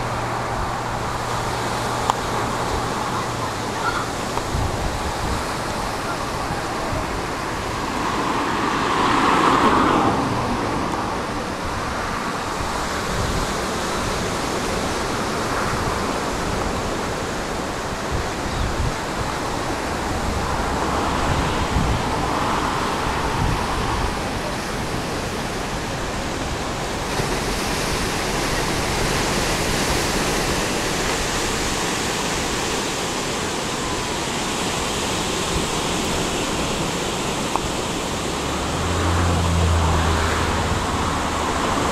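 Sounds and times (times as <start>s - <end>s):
ocean surf breaking: 0.0s - 41.9s
wind buffeting microphone: 0.0s - 41.9s.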